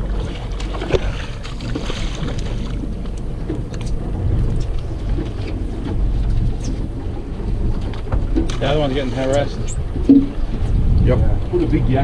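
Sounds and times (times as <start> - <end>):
boat rumble: 0.0 - 12.0
wind on microphone: 0.0 - 12.0
faint knocks and splashes: 0.1 - 6.6, 7.2 - 10.6.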